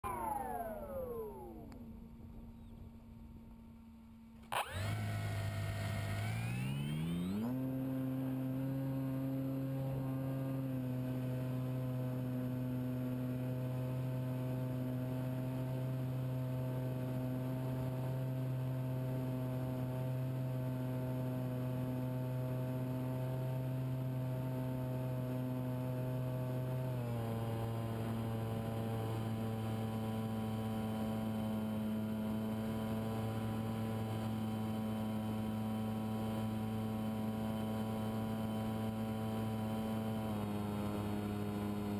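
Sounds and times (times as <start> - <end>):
model airplane motor drone: 0.0 - 41.9.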